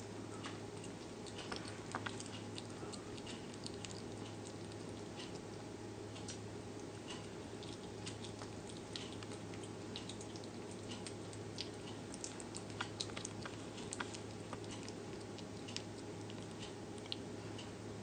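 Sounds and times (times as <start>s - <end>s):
steady low hum: 0.0s - 18.0s
animal chewing with crunching clicks: 0.2s - 17.8s.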